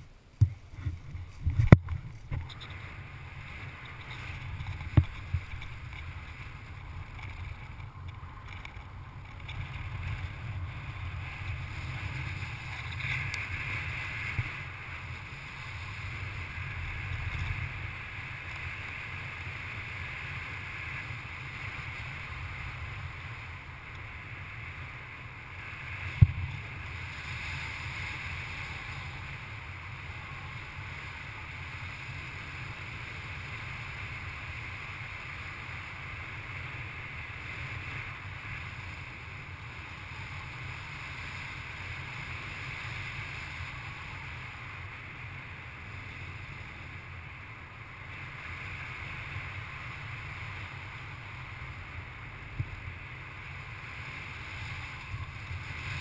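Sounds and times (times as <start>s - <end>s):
wind noise on camera: 0.0s - 56.0s.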